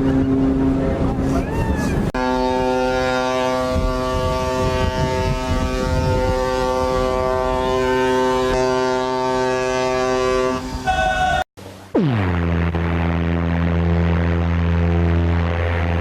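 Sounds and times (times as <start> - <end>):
ship's horn blast: 0.0 - 11.4, 12.1 - 16.0.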